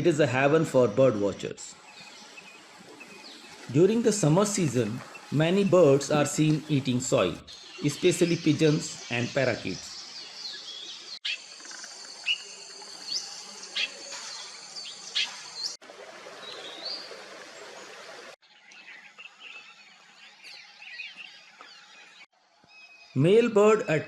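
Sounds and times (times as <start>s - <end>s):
birds chirping: 0.0s - 15.8s, 16.4s - 24.0s
high outdoor hiss: 0.0s - 24.0s.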